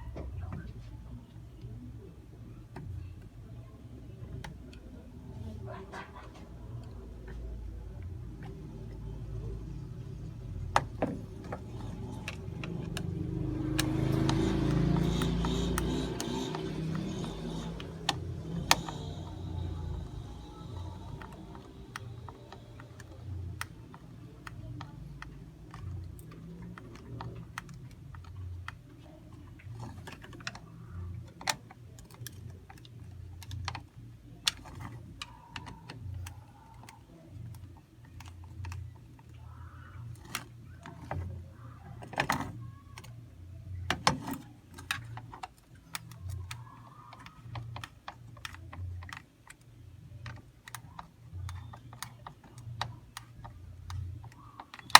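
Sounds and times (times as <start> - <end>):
small clicks and taps on plastic: 2.5 - 54.9.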